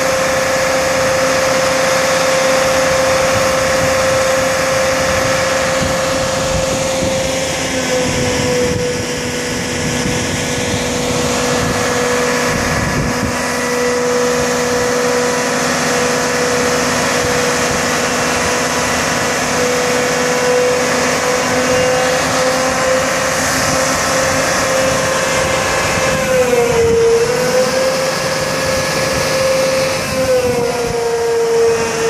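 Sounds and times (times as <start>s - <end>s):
diesel engine running: 0.0s - 32.0s
hydraulic pump whine: 0.0s - 32.0s.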